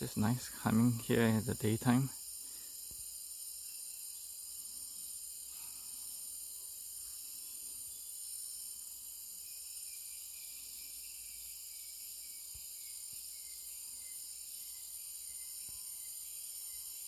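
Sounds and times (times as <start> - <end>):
shrill insect chorus: 0.0 - 17.0.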